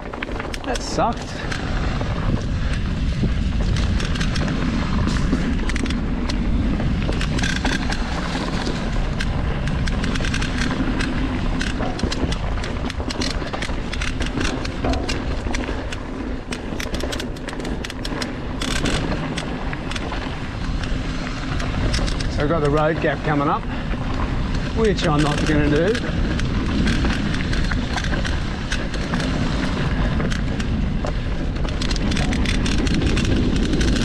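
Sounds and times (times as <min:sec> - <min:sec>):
bike clattering over bumps: 0:00.0 - 0:34.0
tyres rolling on dirt: 0:00.0 - 0:34.0
wind rushing over microphone: 0:00.0 - 0:34.0.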